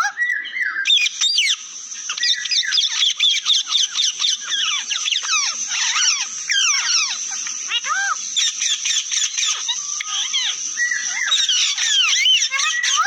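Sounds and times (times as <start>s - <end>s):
parrots chirping and chattering: 0.0s - 13.0s.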